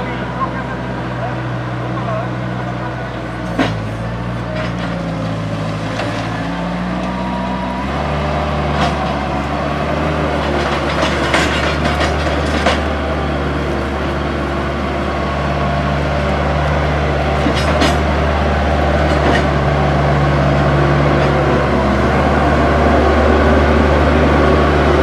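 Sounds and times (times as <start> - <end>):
construction machine engine running: 0.0 - 25.0.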